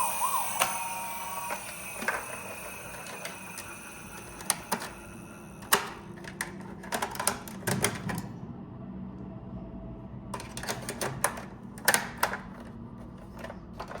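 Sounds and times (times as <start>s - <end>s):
plastic toys clicking and clacking: 0.0s - 5.0s, 5.6s - 8.3s, 10.4s - 14.0s.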